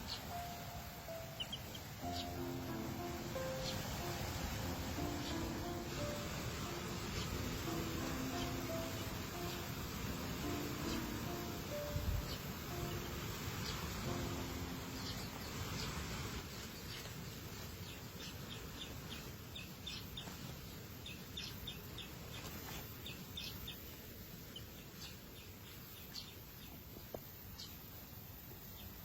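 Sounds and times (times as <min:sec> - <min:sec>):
small bird chirping: 0:00.0 - 0:27.9
background hiss: 0:00.0 - 0:29.0.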